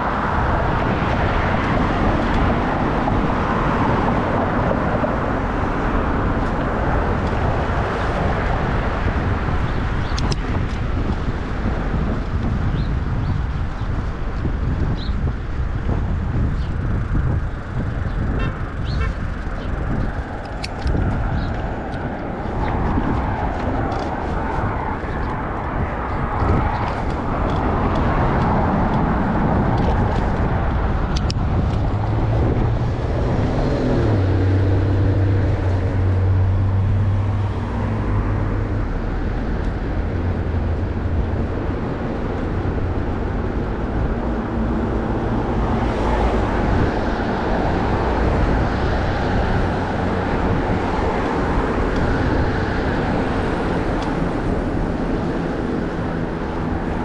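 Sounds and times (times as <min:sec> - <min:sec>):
cars running past: 0:00.0 - 0:57.0
large vehicle engine hum: 0:00.0 - 0:57.0.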